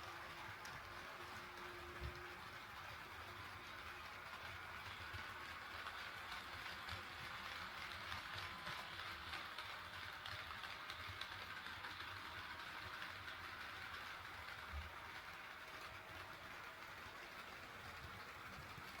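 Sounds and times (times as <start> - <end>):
model train rattling on track: 0.0 - 19.0.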